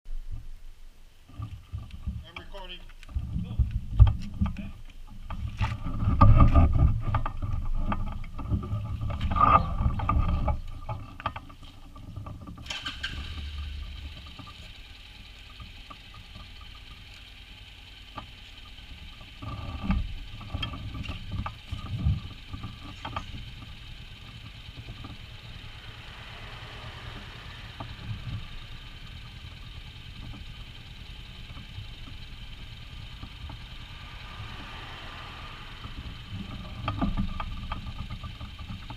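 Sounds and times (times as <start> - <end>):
motorcycle engine idling: 7.0 - 38.9.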